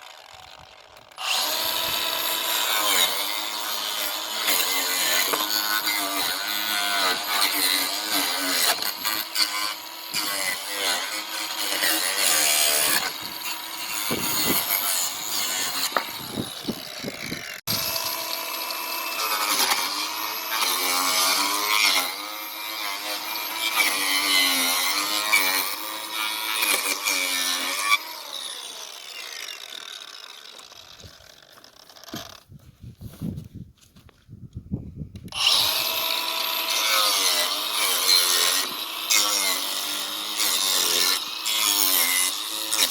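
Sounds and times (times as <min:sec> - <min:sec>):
angle grinder cutting wood: 0:00.0 - 0:32.5, 0:35.2 - 0:42.9.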